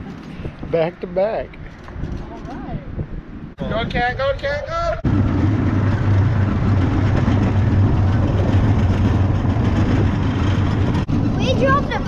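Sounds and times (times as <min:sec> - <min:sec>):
vehicle engine humming: 0:01.0 - 0:12.0.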